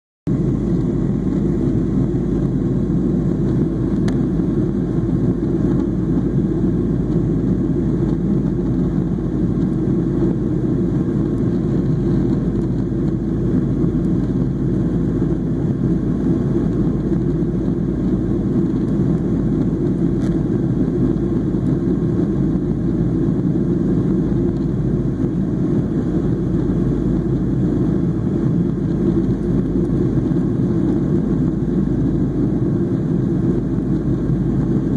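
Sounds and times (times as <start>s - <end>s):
airplane engine and airflow noise: 0.3s - 34.9s.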